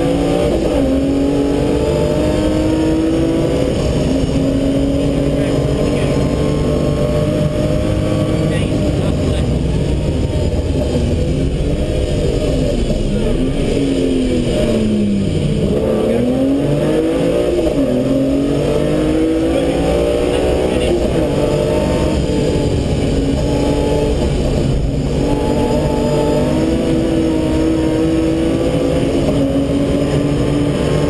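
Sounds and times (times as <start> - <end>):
car engine revving from inside cabin: 0.0 - 9.4, 13.2 - 31.0
road and wind rumble: 0.0 - 31.0.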